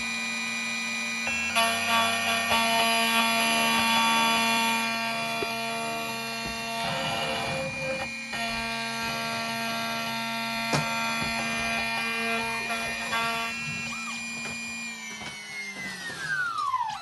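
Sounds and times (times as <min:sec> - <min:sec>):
key-cutting machine whining: 0:00.0 - 0:17.0.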